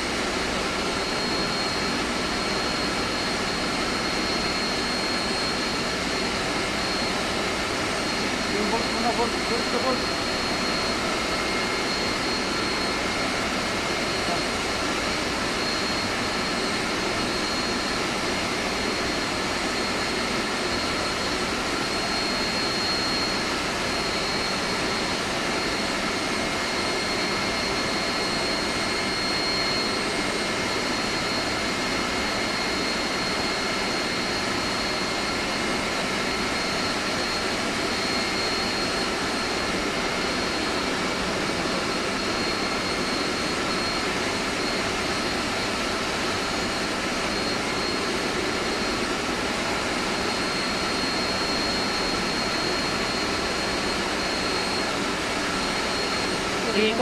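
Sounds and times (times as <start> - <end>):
high-pitched machinery whines: 0.0 - 57.0.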